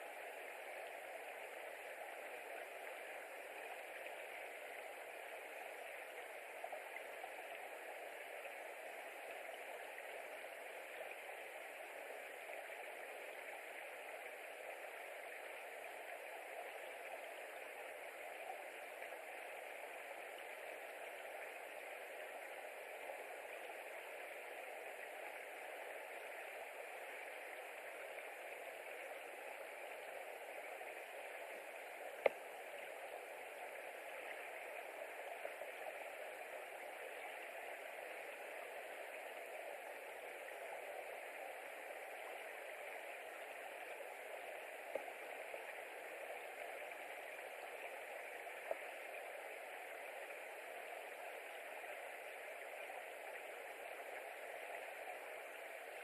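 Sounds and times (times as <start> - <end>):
microphone hiss: 0.0 - 56.0.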